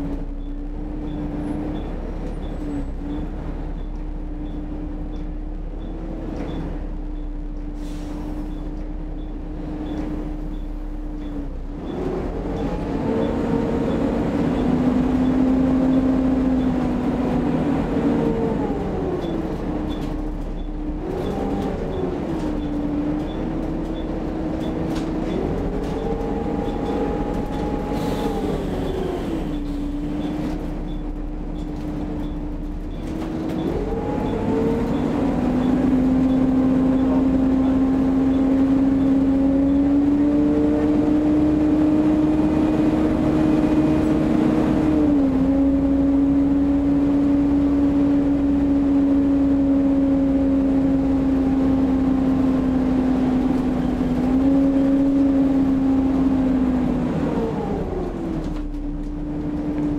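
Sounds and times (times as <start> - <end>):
gearbox whine: 0.0 - 7.8, 8.4 - 59.9
bus engine rumble: 0.0 - 59.9.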